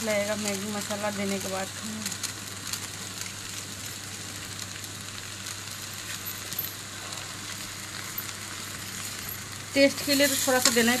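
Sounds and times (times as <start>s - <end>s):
noodles sizzling in pan: 0.0s - 11.0s.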